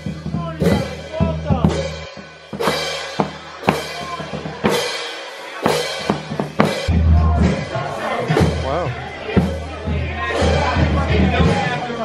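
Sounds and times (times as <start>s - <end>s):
marching band drums: 0.0s - 12.0s.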